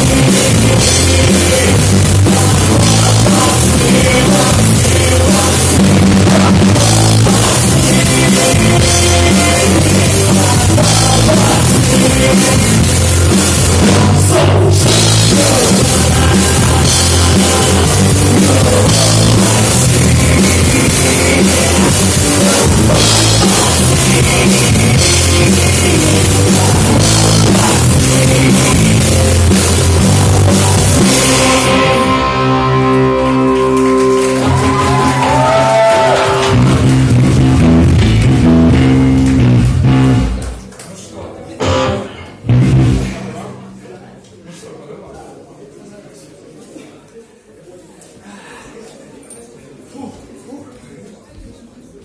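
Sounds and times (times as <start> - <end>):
live rock band playing: 0.0 - 40.6, 41.6 - 43.6.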